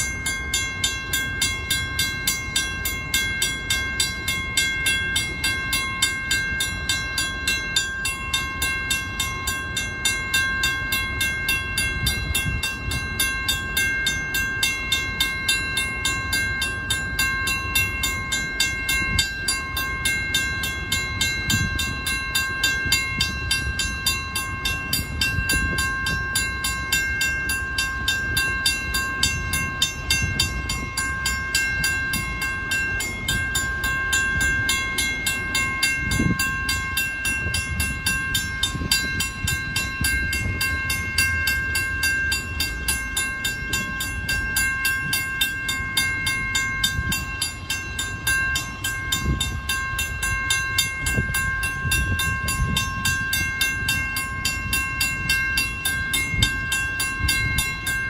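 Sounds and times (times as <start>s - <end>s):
mechanical crossing bell ringing: 0.0s - 58.0s.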